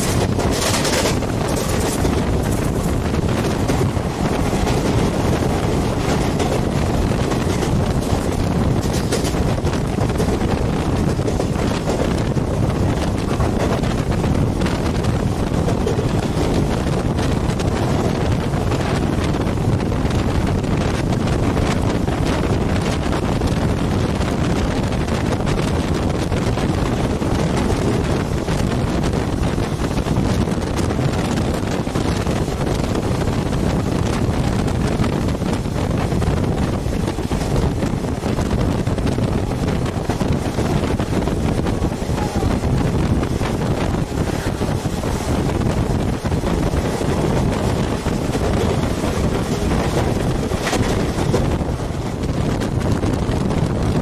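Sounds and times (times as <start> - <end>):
train rumbling on rails: 0.0 - 54.0
wind buffeting microphone: 0.0 - 54.0.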